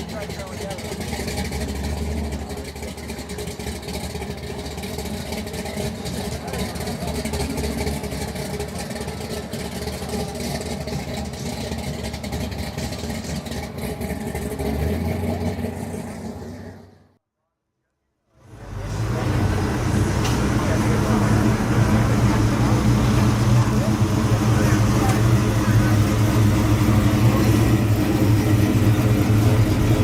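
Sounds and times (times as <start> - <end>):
car engine low rumble: 0.0 - 17.2, 18.4 - 30.0.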